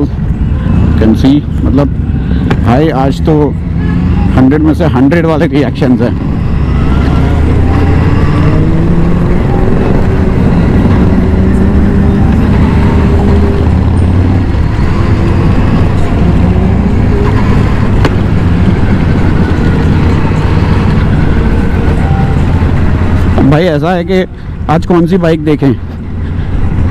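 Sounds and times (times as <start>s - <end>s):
motorcycle engines cruising: 0.0s - 26.9s.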